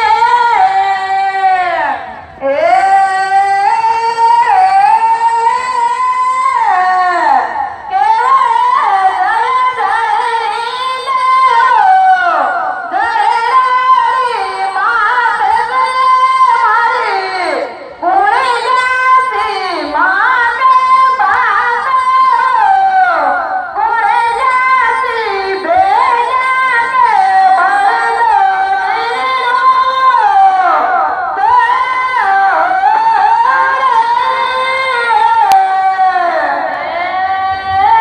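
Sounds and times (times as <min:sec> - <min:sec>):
person singing through loudspeakers: 0:00.0 - 0:38.0.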